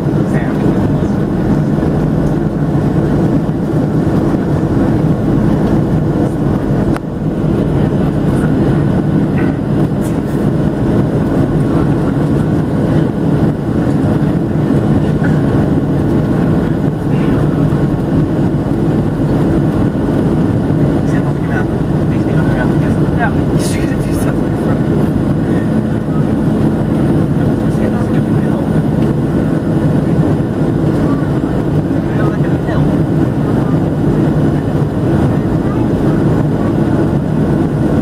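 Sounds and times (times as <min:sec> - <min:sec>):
airplane engines rumbling: 0:00.0 - 0:38.0
rushing air: 0:00.0 - 0:38.0.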